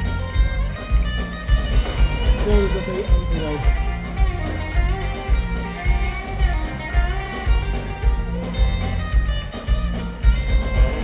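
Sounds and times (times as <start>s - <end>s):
live band playing soul song: 0.0s - 11.0s.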